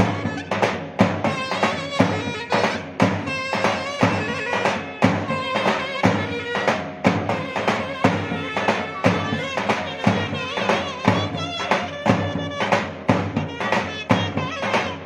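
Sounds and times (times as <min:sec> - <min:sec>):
heavy drum beats: 0:00.0 - 0:15.0
shrill zurna melody: 0:00.0 - 0:15.0.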